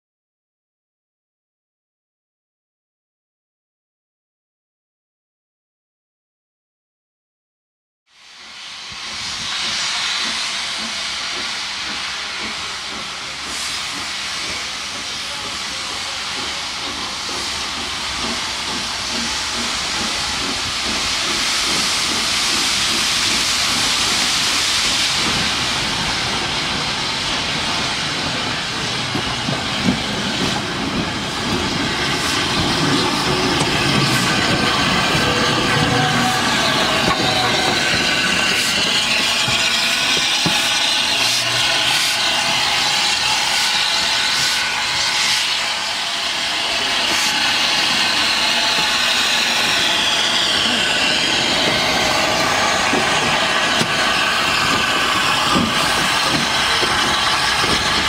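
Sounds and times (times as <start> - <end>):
steam hissing: 8.1 - 58.0.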